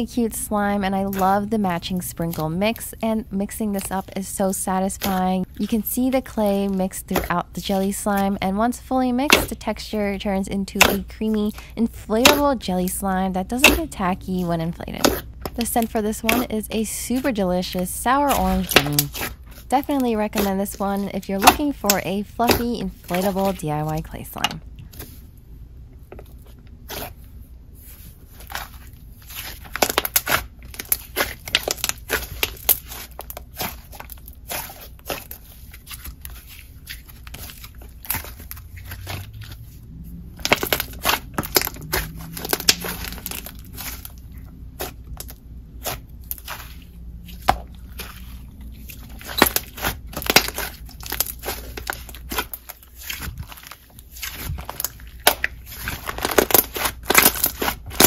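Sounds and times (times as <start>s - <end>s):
hands squishing slime: 0.6s - 8.4s, 13.5s - 24.3s, 26.4s - 58.0s.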